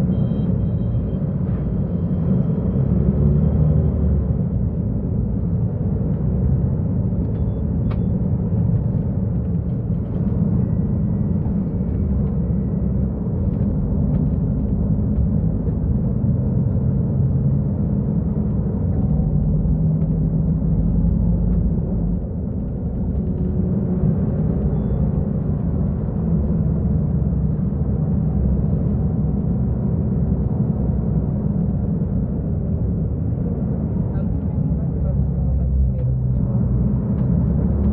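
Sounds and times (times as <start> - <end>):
bus diesel engine running: 0.0 - 37.9.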